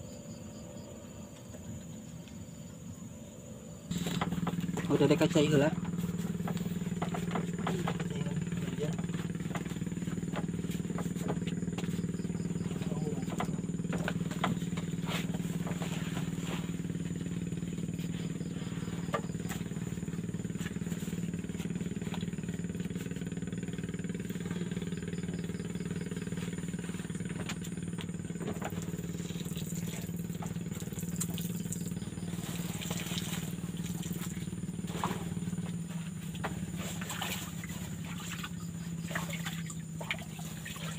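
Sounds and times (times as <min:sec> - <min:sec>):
low engine drone: 0:00.0 - 0:40.9.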